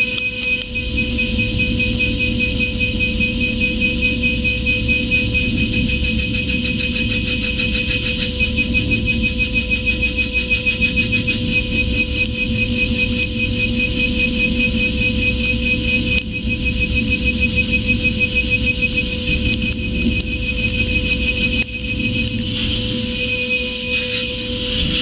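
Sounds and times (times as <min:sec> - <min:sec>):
milling machine high-pitched whine: 0:00.0 - 0:25.0.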